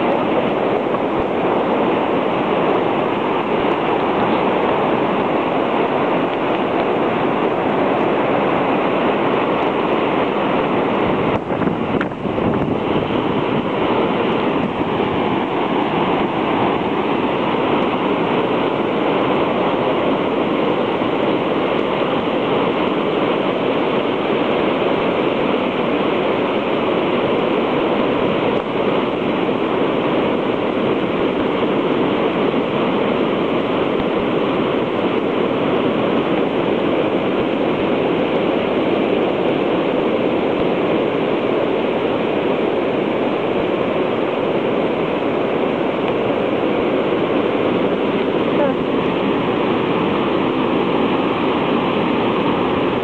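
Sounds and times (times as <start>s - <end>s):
surf rushing on beach: 0.0s - 53.0s.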